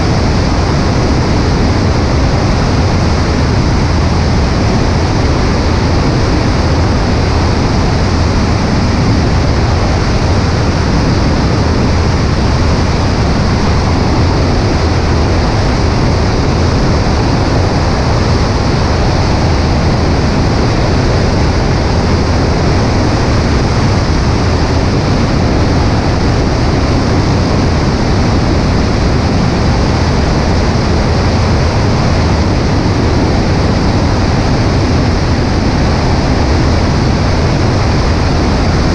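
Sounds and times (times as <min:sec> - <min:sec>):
aircraft propeller engine droning: 0:00.0 - 0:38.9
heavy wind rush: 0:00.0 - 0:38.9.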